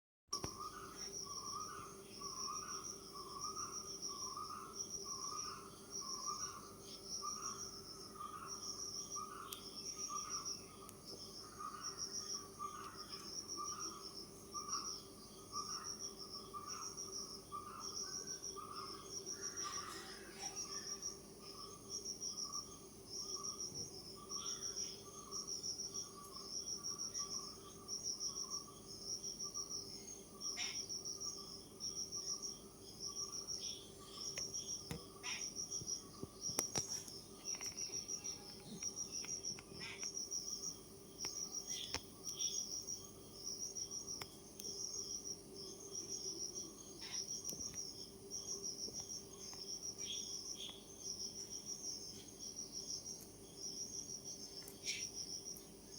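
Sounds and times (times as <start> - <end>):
insects chirping: 0.4 - 55.9.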